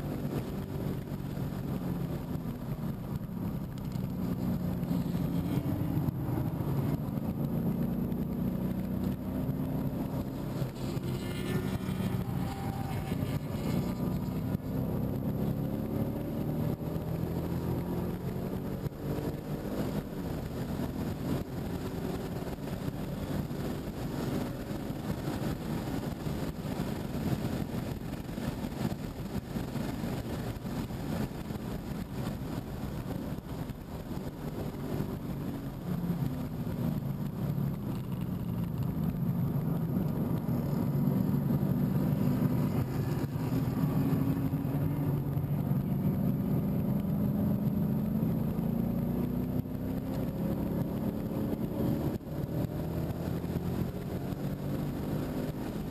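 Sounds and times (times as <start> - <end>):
car engine under load: 0.0 - 55.9.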